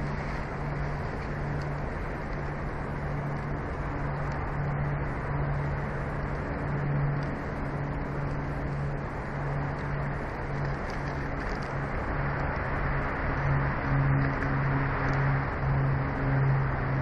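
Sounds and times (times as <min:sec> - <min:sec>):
low hum: 0:00.0 - 0:17.0
wind on microphone: 0:00.0 - 0:17.0.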